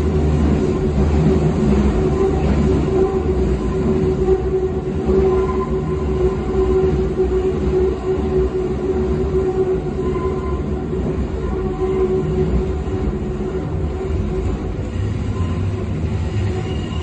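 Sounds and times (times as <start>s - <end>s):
train motor hum: 0.0s - 17.0s
train wheels rumbling on track: 0.0s - 17.0s.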